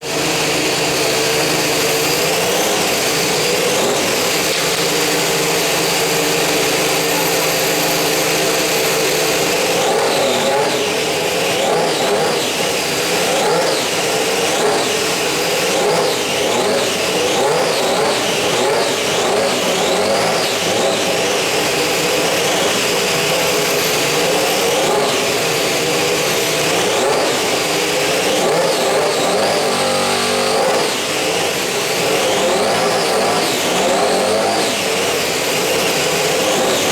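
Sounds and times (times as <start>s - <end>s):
racing car engine revving: 0.0s - 36.9s.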